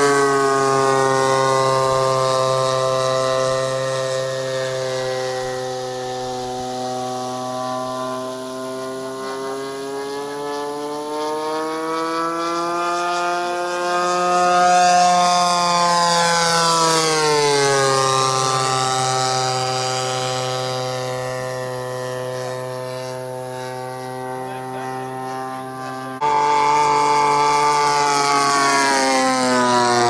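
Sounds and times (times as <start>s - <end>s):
model airplane engine fly-by: 0.0s - 30.0s.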